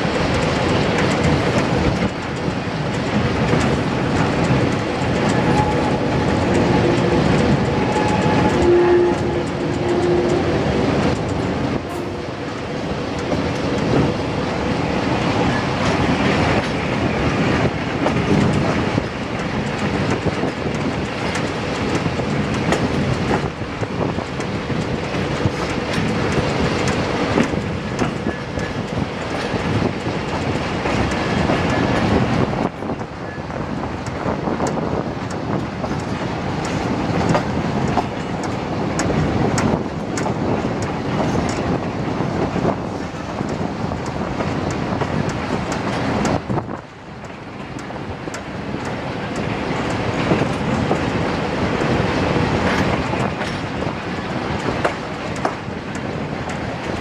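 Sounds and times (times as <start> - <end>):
train running noise: 0.0 - 57.0
wheels clicking over rail joints: 0.0 - 57.0.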